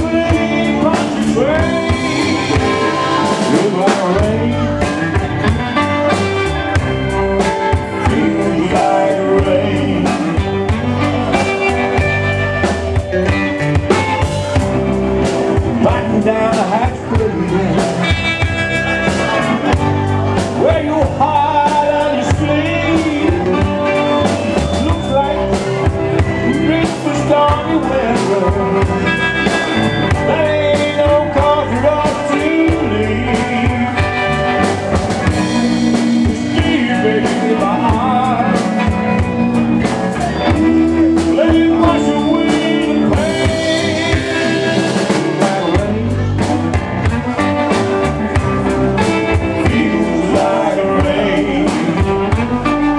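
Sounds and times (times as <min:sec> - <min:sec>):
band playing slow blues: 0:00.0 - 0:52.9.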